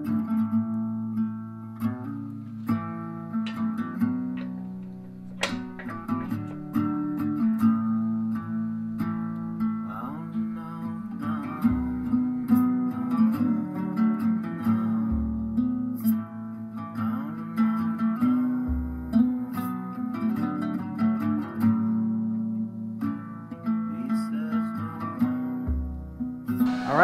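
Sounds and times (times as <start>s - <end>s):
acoustic guitar music: 0.0s - 27.0s.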